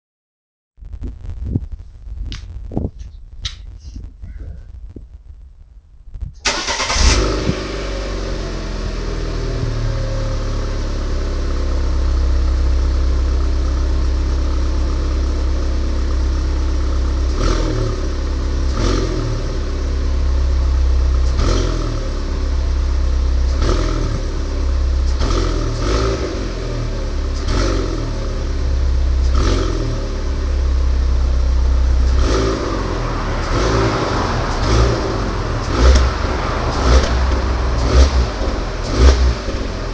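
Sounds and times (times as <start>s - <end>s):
car engine idling: 6.4s - 39.9s.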